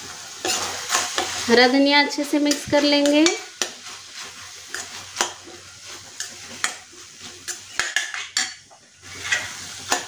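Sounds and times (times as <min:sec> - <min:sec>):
food sizzling: 0:00.0 - 0:10.0
spatula scraping metal pan: 0:00.4 - 0:01.6, 0:02.4 - 0:10.0.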